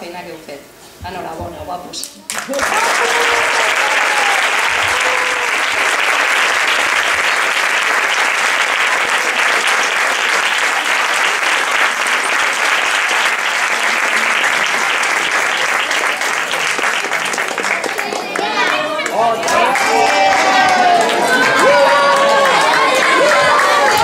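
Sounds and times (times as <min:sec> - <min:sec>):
crowd applauding: 0:02.3 - 0:24.0.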